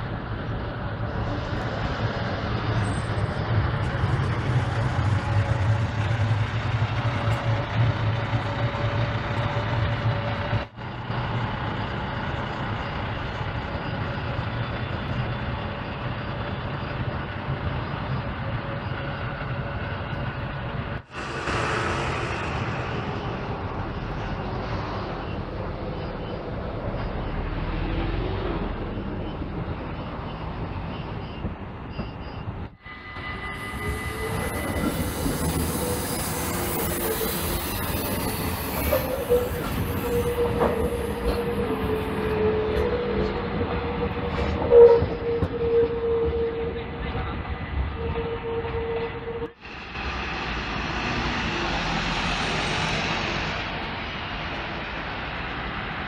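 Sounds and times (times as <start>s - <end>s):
diesel bus engines rumbling: 0.0s - 56.0s.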